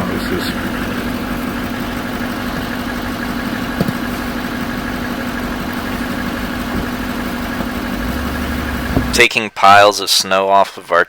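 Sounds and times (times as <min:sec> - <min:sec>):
truck engine idling: 0:00.0 - 0:09.4.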